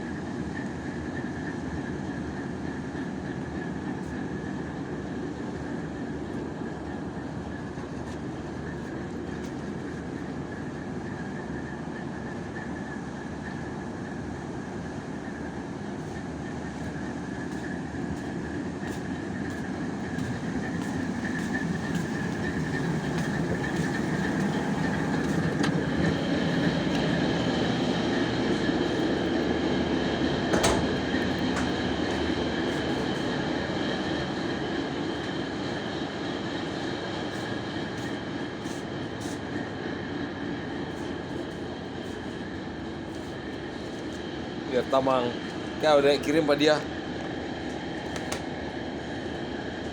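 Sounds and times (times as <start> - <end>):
heavy machinery drone and whine: 0.0 - 49.9.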